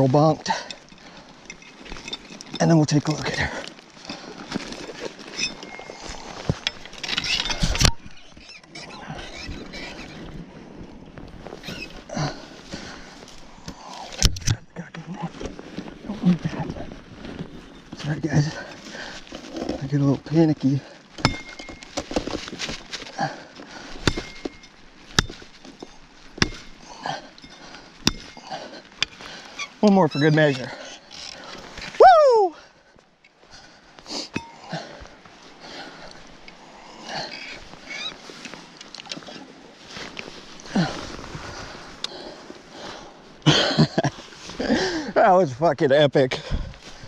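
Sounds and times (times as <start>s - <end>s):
rustling of dry grass and netting: 0.0s - 47.0s.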